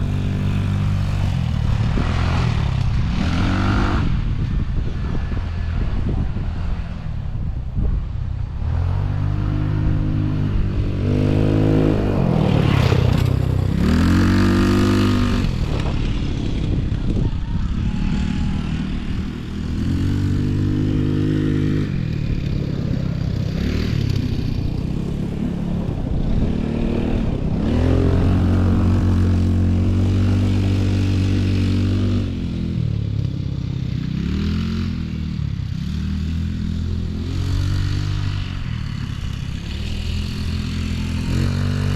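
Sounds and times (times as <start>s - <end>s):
off-road vehicle engine revving: 0.0s - 6.8s, 8.6s - 17.2s, 17.8s - 41.9s.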